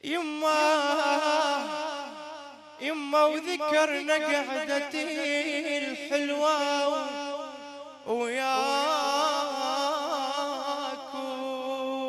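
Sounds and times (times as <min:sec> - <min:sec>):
man chanting a lament: 0:00.0 - 0:12.0.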